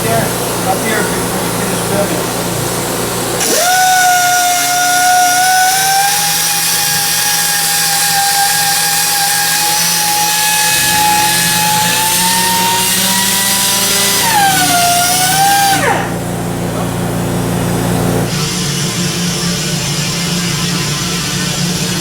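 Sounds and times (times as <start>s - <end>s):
electric power tool whine: 0.0s - 22.0s.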